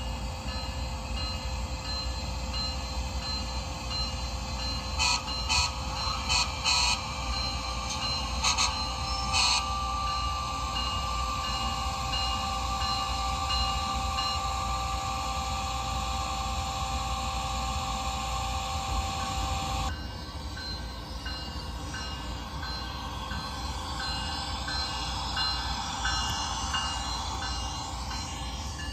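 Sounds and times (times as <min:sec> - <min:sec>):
electric locomotive running slowly: 0:00.0 - 0:28.9
held whining tones: 0:00.0 - 0:28.9.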